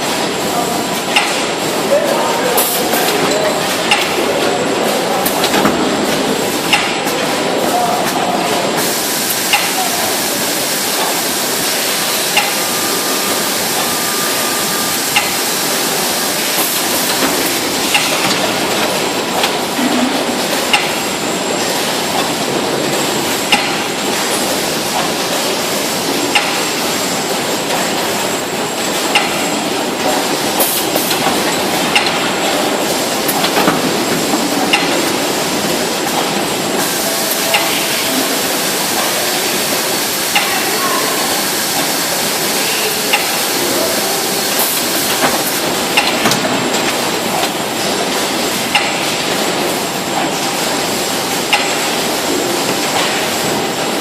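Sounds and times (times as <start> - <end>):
baler mechanical noise: 0.0 - 54.0.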